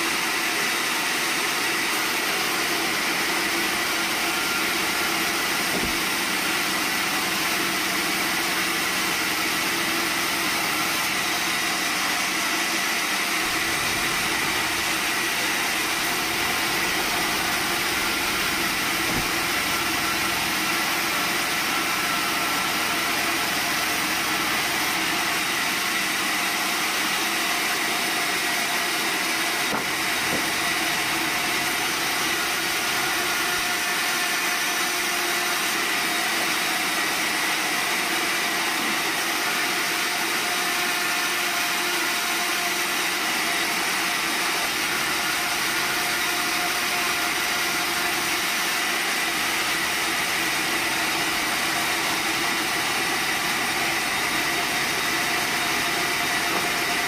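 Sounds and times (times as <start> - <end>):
band saw cutting log: 0.0 - 57.0
high steady saw whine: 0.0 - 57.0.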